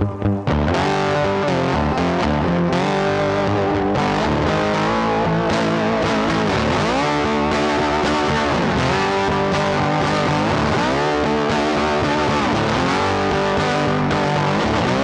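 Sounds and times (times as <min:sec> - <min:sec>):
backing music: 0:00.0 - 0:15.0
distorted electric guitar melody: 0:00.0 - 0:15.0.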